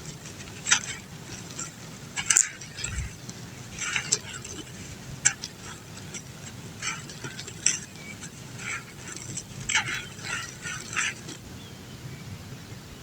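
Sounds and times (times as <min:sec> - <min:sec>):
dry dirt crumbling: 0:00.0 - 0:11.4.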